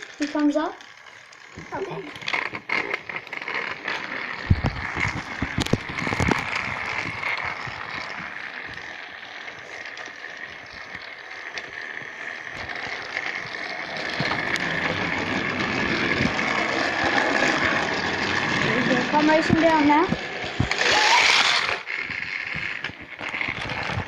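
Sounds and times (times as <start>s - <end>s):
toy train motor whine: 0.0s - 24.0s
wheels rattling on track: 0.0s - 24.0s.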